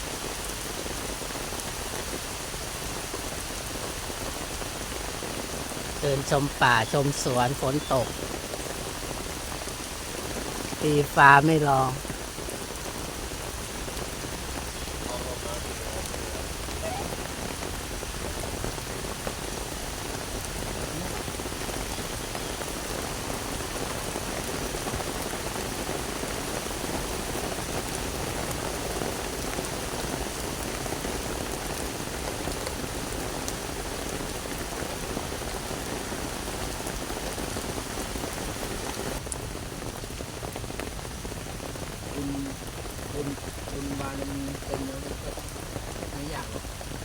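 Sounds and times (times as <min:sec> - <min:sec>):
steady rain falling: 0:00.0 - 0:47.0
raindrop ticks: 0:00.1 - 0:47.0.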